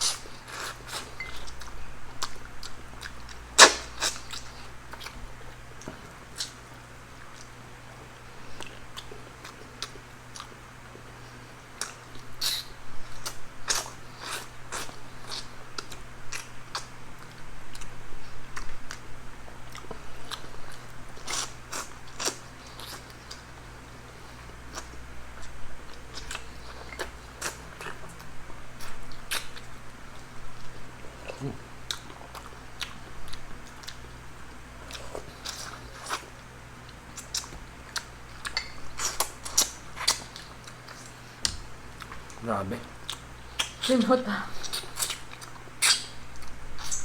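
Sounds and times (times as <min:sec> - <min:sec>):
chewing and crunching: 0:00.0 - 0:47.0
faint low hum: 0:00.0 - 0:47.0.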